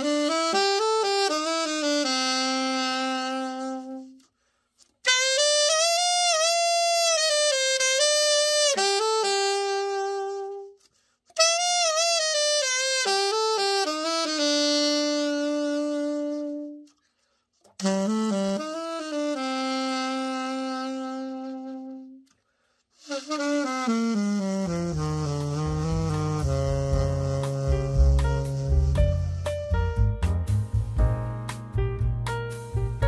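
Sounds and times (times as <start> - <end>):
alto saxophone phrases: 0.0 - 4.3, 5.1 - 10.8, 11.4 - 17.0, 17.8 - 22.3, 23.0 - 30.1.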